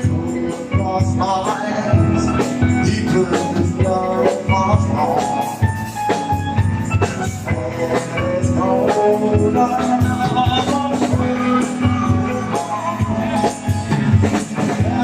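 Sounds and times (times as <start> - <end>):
person singing: 0.0 - 5.9, 7.0 - 15.0
band playing a song: 0.0 - 15.0.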